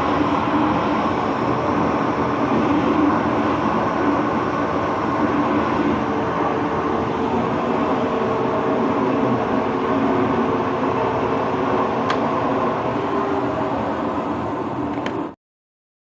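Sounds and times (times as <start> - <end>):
machinery humming: 0.0 - 15.4
noisy rush: 0.0 - 15.4.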